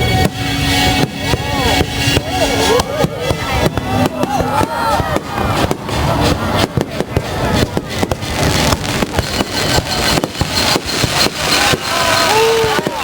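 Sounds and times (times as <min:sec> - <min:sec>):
continuous rumble: 0:00.0 - 0:11.4
fireworks bangs and crackles: 0:00.0 - 0:13.0.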